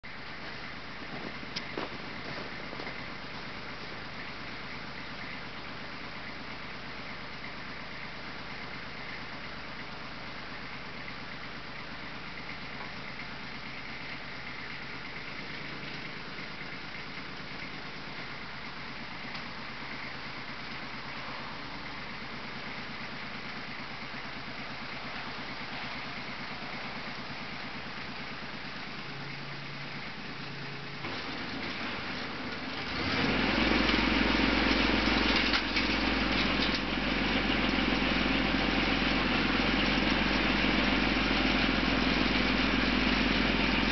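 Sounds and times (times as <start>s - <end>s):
tractor diesel engine rumbling: 0.0s - 43.9s
snowblower whine: 0.1s - 43.9s.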